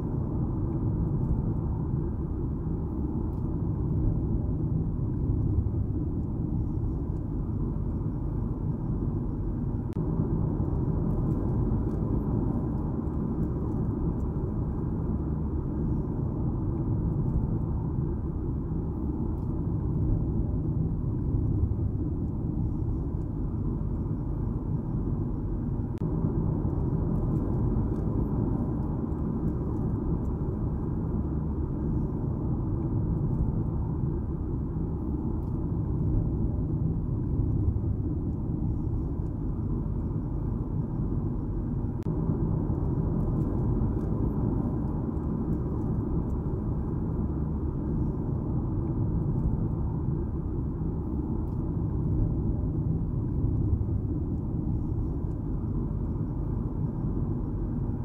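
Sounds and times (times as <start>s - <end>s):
car driving rumble: 0.0s - 58.0s.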